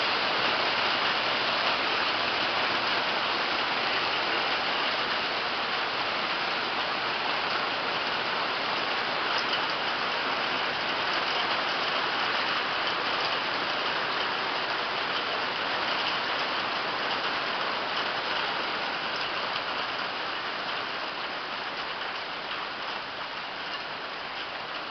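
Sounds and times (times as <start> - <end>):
hail pelting the ground: 0.0 - 24.9.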